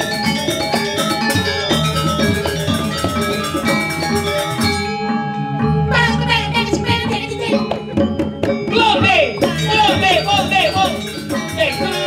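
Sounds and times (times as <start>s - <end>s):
drum: 0.0s - 4.8s, 5.9s - 12.0s
gamelan metallophones: 0.0s - 12.0s.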